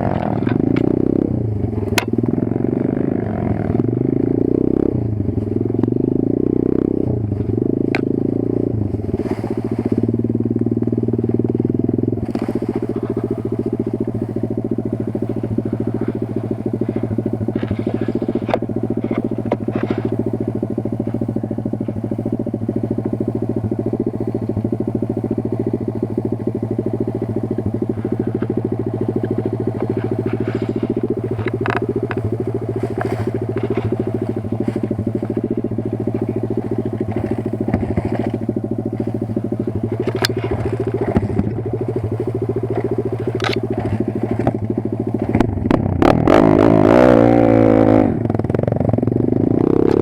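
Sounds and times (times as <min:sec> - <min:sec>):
motorbike engine running: 0:00.0 - 0:50.0.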